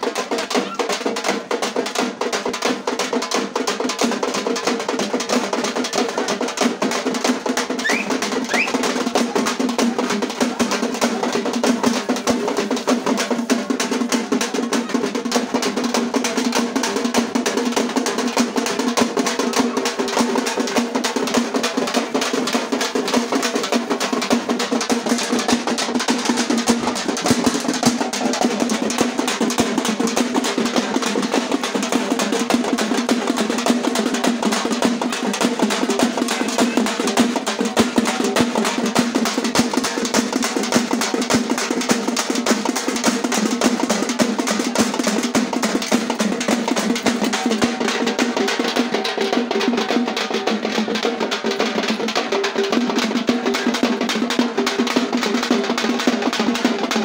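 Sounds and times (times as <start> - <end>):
rapid drum roll: 0.0 - 57.0.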